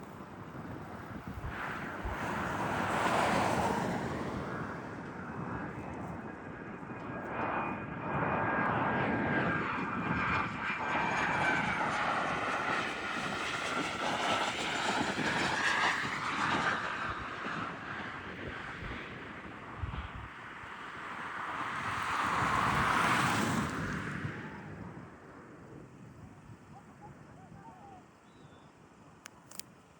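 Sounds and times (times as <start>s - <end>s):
jet engines whining: 0.0s - 26.1s.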